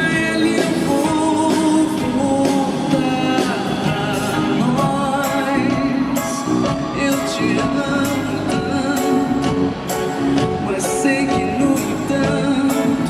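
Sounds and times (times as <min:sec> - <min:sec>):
live band music: 0:00.0 - 0:13.0
person singing: 0:00.0 - 0:13.0.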